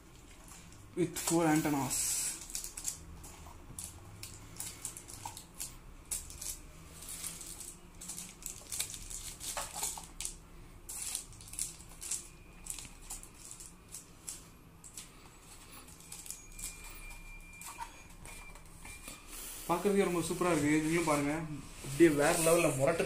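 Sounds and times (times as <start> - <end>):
plastic sleeves rustling: 0.1 - 18.7, 19.7 - 23.0.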